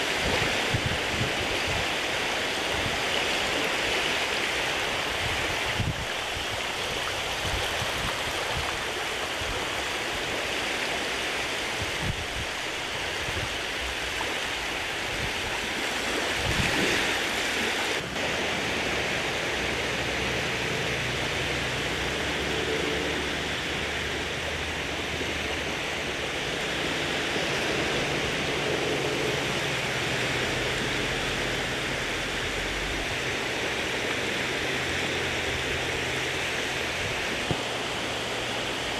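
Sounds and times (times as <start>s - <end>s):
shallow water washing over sand: 0.0s - 38.9s.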